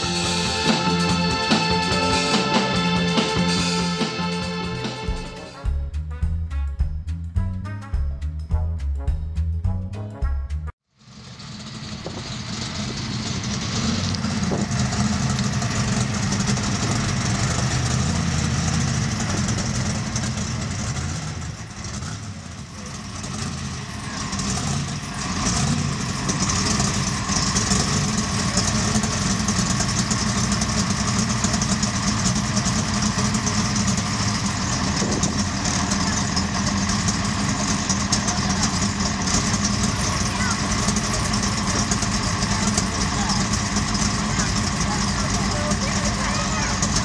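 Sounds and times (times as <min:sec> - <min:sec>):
truck engine idling: 0:00.0 - 0:09.6, 0:10.6 - 0:47.0.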